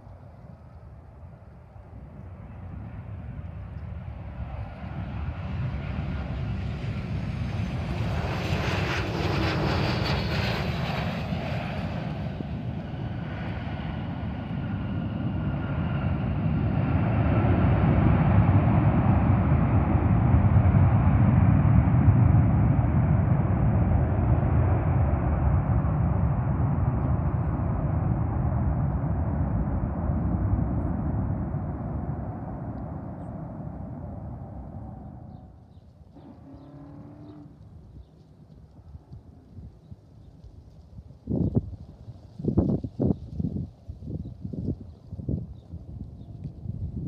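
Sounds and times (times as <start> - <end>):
jet engine high whine: 0.0 - 39.8
jet engine low rumble: 0.0 - 47.0.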